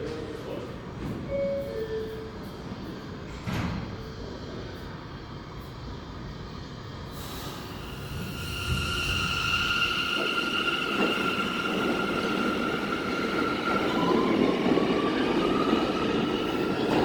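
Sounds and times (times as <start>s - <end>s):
rising tone of accelerating train: 0.0s - 17.0s.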